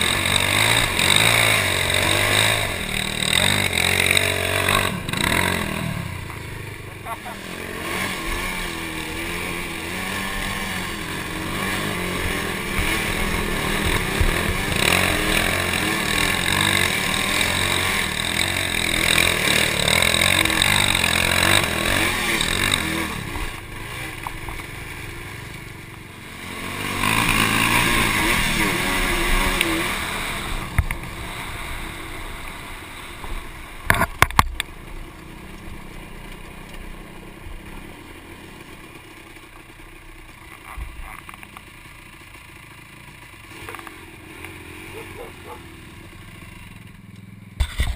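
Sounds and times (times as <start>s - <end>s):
quad engine revving: 0.0s - 47.9s.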